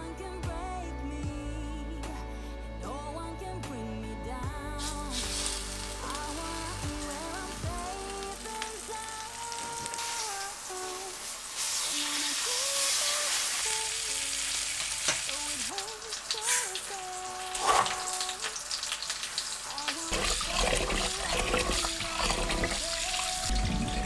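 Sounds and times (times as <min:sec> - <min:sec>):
soft background music: 0:00.0 - 0:24.0.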